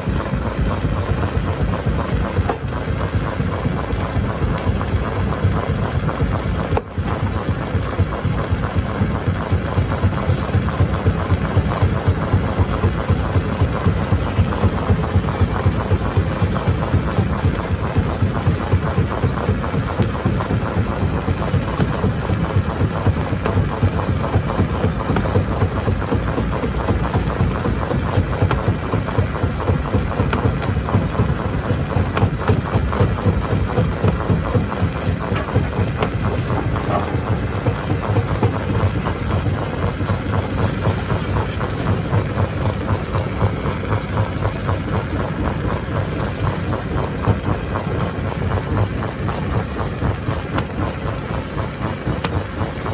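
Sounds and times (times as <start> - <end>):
stone crusher machine running: 0.0 - 52.9.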